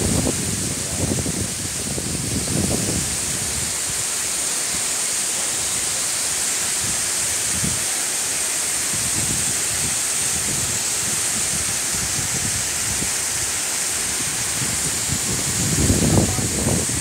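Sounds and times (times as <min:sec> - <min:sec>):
waterfall rushing into a pool: 0:00.0 - 0:17.0.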